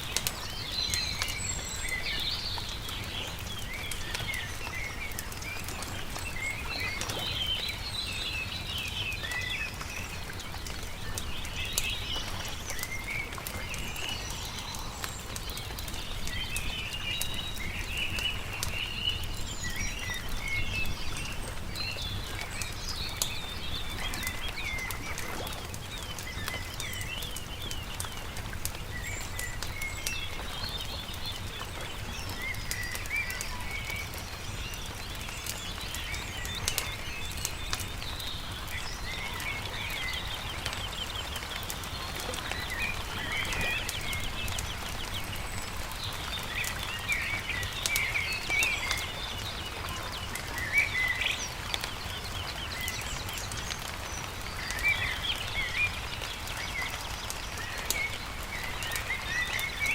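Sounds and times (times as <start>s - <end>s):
birds chirping: 0.0s - 59.9s
campfire crackling: 0.0s - 59.9s.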